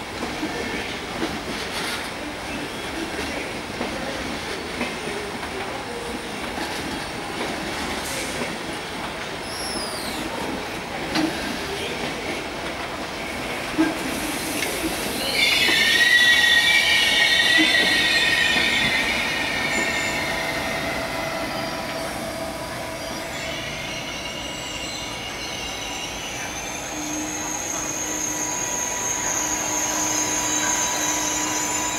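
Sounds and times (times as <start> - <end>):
train wheels squealing on rails: 0.2 - 31.9.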